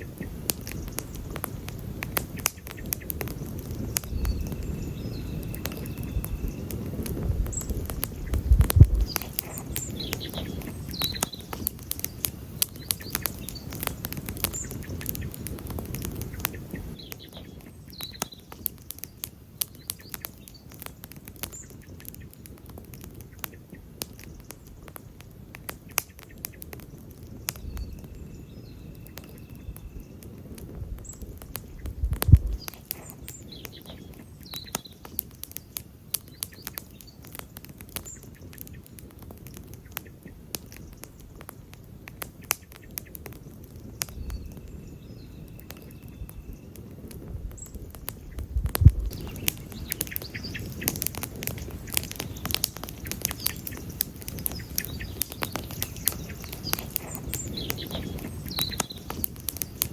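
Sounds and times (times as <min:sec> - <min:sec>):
campfire crackling and popping: 0:00.0 - 0:59.9
low rush of flames: 0:00.0 - 0:59.9
small birds chirping: 0:00.0 - 0:59.9.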